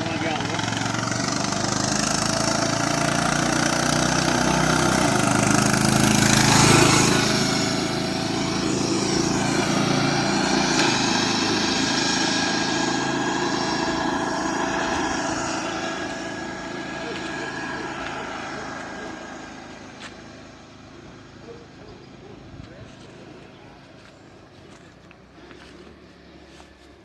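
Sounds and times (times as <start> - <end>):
lawnmower engine running high: 0.0 - 27.0.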